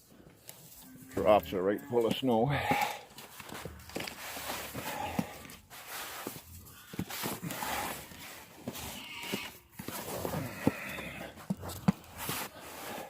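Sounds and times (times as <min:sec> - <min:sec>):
crunching and scraping of wet snow: 0:00.0 - 0:13.0.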